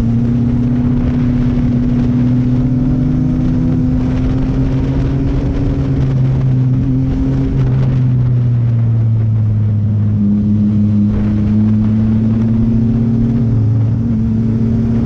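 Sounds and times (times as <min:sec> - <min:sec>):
motorcycle engine cruising: 0:00.0 - 0:15.0
rushing noise: 0:00.0 - 0:15.0.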